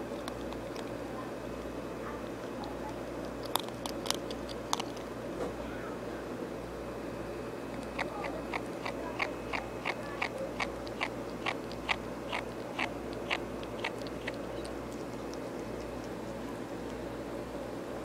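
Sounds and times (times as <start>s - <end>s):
ferret eating with sharp clicks: 0.0s - 5.2s, 7.7s - 17.6s.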